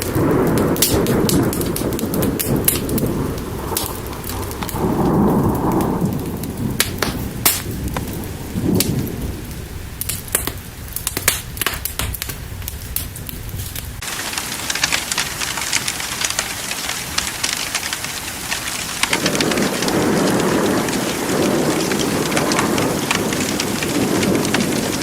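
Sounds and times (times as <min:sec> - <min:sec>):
rain falling: 0:00.0 - 0:25.0
rolling thunder: 0:00.0 - 0:25.0
wood fire crackling: 0:00.0 - 0:25.0.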